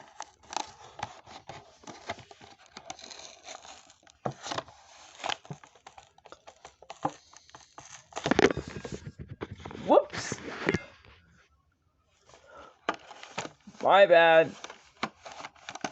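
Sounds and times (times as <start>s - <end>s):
cardboard tearing: 0.0s - 10.8s, 12.8s - 15.9s
plastic blister crinkling: 0.0s - 11.4s, 12.2s - 15.9s.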